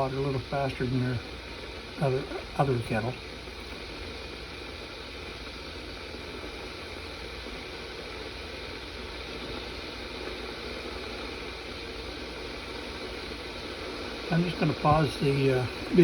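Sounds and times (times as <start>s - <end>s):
electric kettle heating water: 0.0s - 16.0s.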